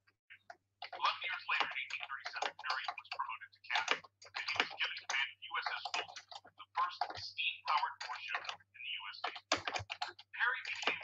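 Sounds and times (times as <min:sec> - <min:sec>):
person speaking over distorted line: 0:00.8 - 0:09.6, 0:10.3 - 0:11.0.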